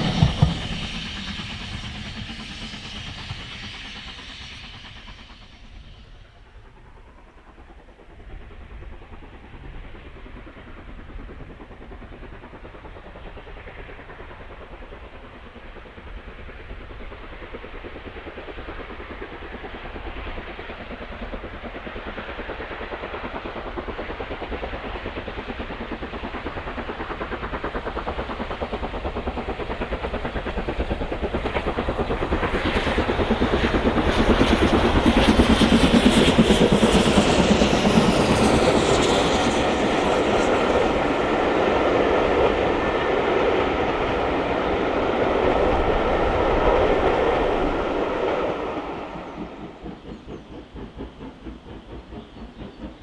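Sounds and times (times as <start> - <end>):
steam locomotive hauling train: 0.0 - 53.0.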